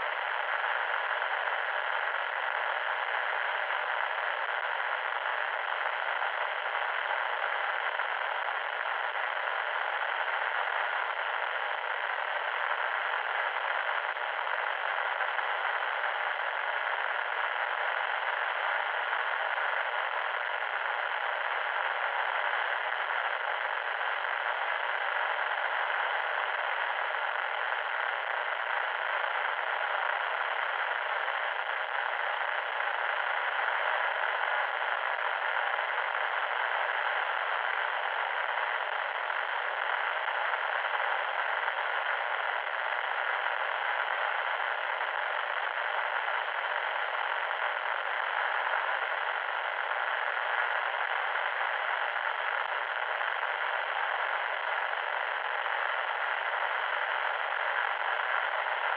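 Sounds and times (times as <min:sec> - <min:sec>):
loud static hiss: 0:00.0 - 0:58.9.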